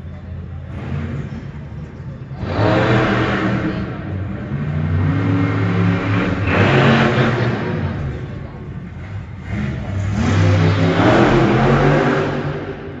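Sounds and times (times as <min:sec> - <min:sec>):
monster truck engine revving: 0:00.5 - 0:13.0.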